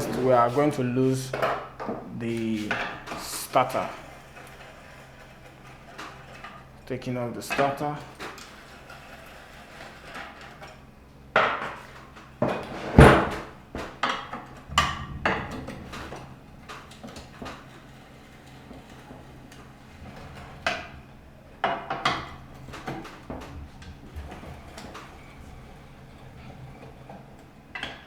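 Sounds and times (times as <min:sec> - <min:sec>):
metal clanks and knocks: 0:00.0 - 0:28.0.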